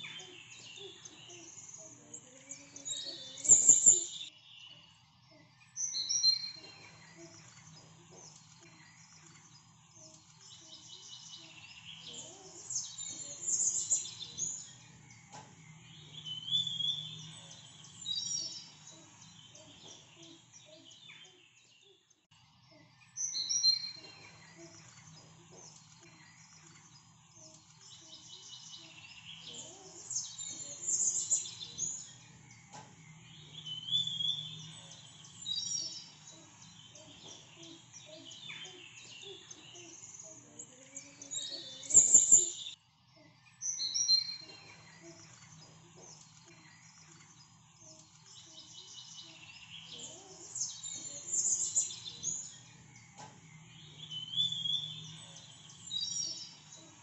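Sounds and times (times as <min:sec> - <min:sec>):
birds chirping and singing: 0:00.0 - 0:57.0
faint low hum: 0:00.0 - 0:57.0.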